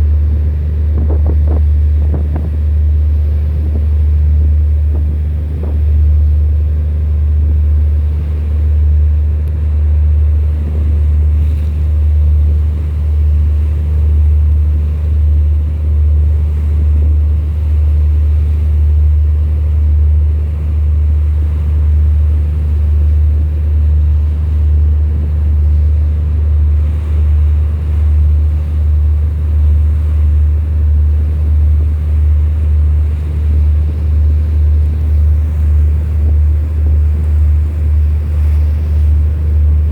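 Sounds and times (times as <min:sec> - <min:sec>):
boat engine rumble: 0:00.0 - 0:39.9
faint water wash: 0:00.0 - 0:39.9.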